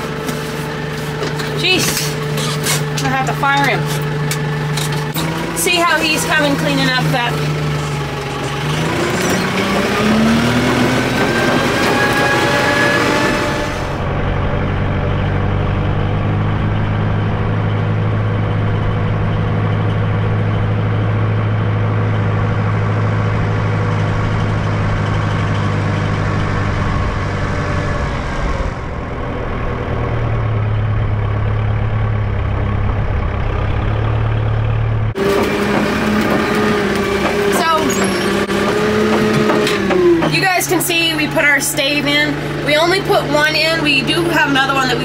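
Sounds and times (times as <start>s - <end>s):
tractor diesel engine revving: 0.0s - 45.0s.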